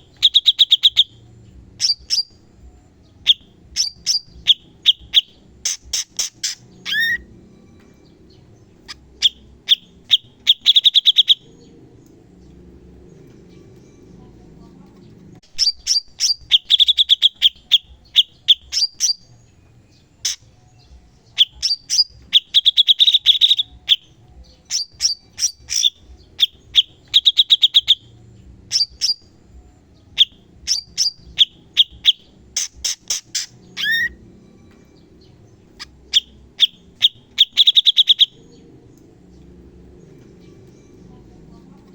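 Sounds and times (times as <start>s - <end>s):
bird singing chip notes and trills: 0.0s - 41.9s.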